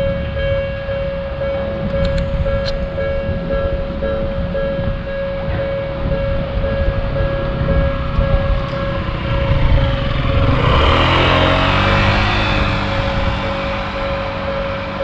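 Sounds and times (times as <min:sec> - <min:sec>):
level-crossing warning bell: 0:00.0 - 0:15.0
tram running noise: 0:00.0 - 0:15.0.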